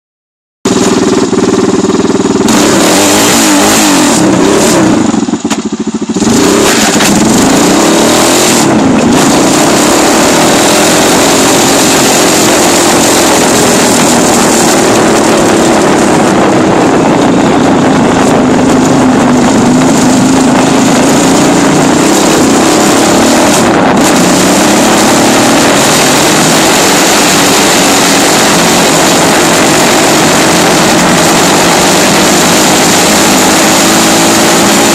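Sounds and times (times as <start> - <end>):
dirt bike engine revving: 0.7 - 34.9.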